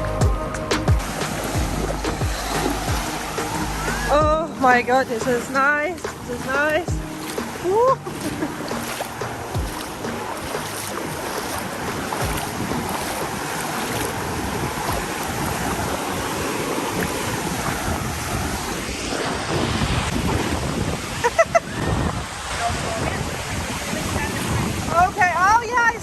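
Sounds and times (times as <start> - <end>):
sea waves washing at shore: 0.0 - 26.0
wind on microphone: 0.0 - 26.0.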